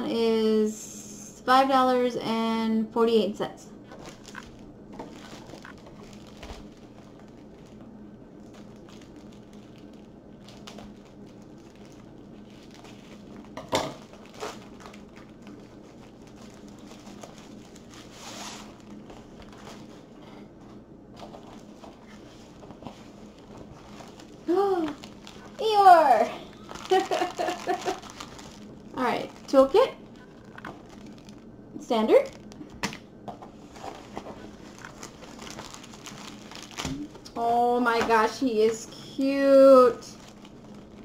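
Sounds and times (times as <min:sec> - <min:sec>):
plastic mailer rustling and crinkling: 0:03.8 - 0:20.2, 0:21.1 - 0:41.0.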